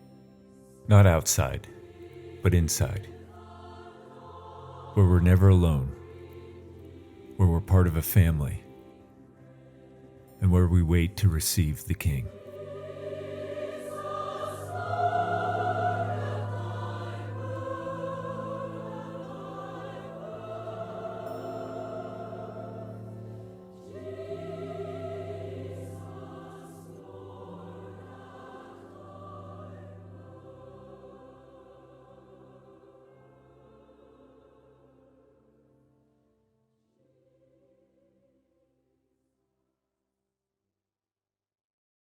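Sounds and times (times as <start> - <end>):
choir singing held chords: 0.0 - 35.8.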